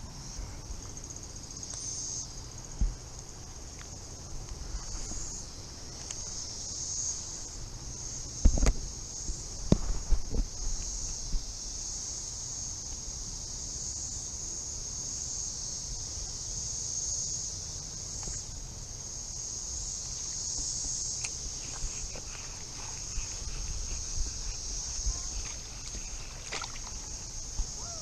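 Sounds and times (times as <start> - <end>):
cicadas buzzing: 0.0 - 28.0.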